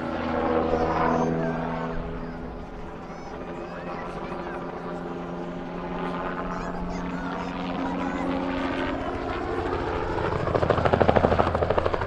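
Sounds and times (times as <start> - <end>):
helicopter engine and rotor hum: 0.0 - 12.0.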